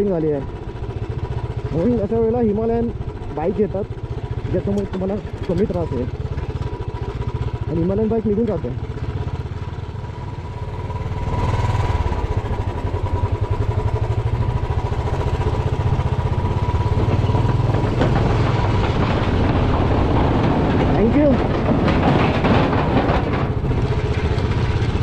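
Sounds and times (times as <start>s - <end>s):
tyres clattering over bridge planks: 0.0s - 11.1s, 12.0s - 25.0s
motorcycle engine running: 0.0s - 25.0s.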